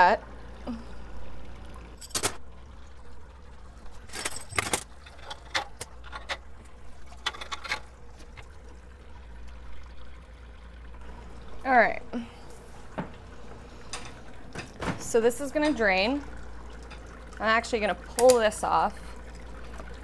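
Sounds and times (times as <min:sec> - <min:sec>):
liquid trickling into kettle: 0:00.0 - 0:20.0.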